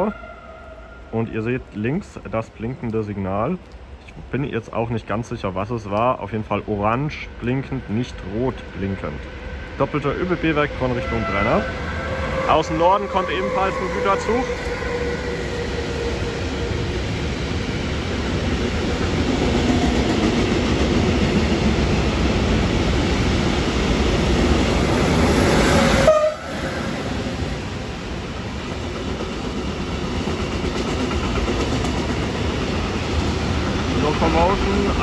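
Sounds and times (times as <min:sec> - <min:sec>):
freight train rolling: 0:00.0 - 0:35.0.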